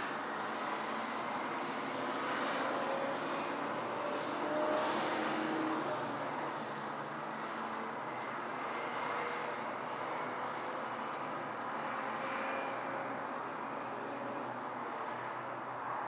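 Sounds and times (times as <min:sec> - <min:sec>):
distant city traffic hum: 0:00.0 - 0:16.0.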